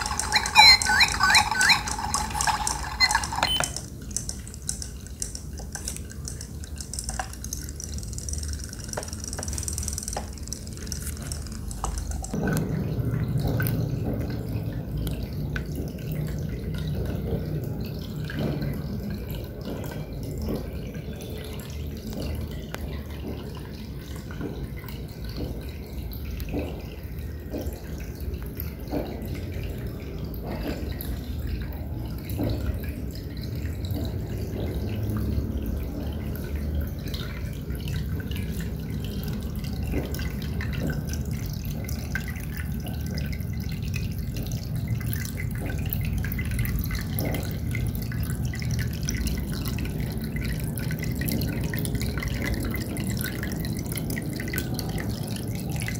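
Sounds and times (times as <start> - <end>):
water drips and plops: 0.0 - 55.9
water pouring into tank: 0.0 - 55.9.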